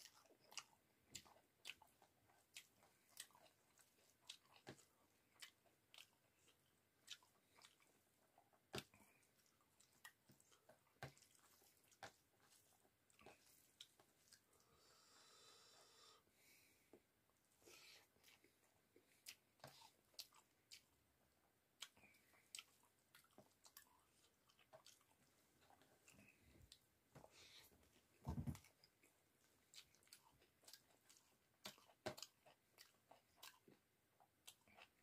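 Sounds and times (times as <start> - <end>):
chewing with wet mouth clicks: 0.0 - 14.7, 18.1 - 26.8, 28.3 - 35.0.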